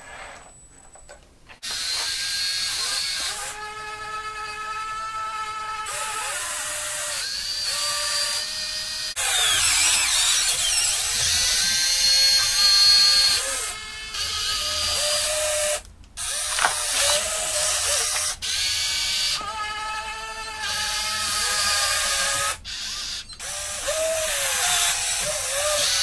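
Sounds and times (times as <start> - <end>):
toy excavator motors whining: 1.6 - 26.0.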